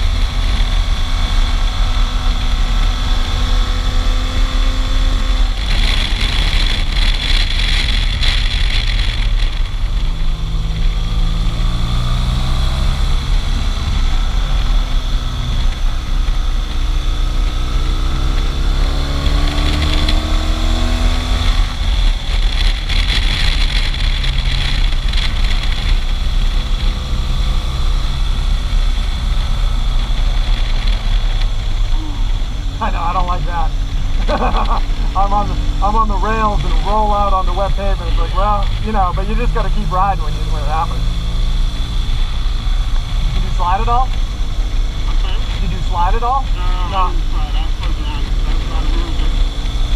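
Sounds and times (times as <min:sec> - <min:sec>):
motorcycle engine accelerating: 0:00.0 - 0:49.9
wind rumble on microphone: 0:00.0 - 0:49.9.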